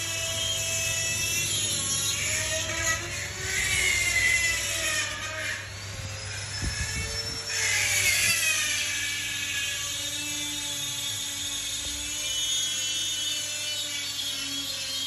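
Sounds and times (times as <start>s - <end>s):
power carving tool whining on wood: 0.0s - 15.0s.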